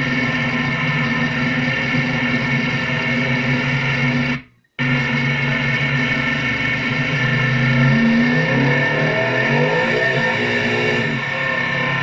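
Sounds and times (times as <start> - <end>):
race car engine inside cabin: 0.0 - 12.0.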